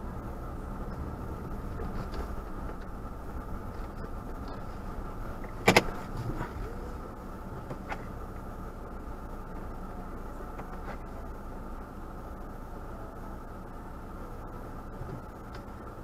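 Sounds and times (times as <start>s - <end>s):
car driving on snow: 0.0s - 16.0s.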